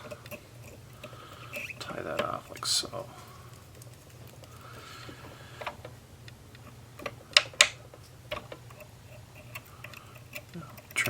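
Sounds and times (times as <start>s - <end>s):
faint low hum: 0.0s - 11.0s
fly-tying tools clicking and tapping: 0.0s - 11.0s.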